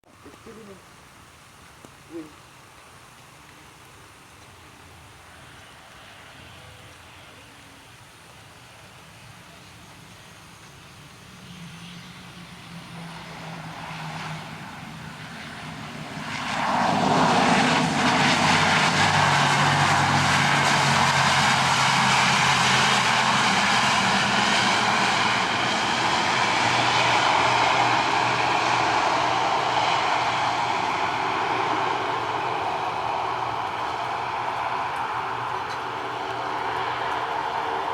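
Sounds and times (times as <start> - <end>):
turboprop aircraft engines roaring: 5.3 - 7.3, 9.0 - 37.9.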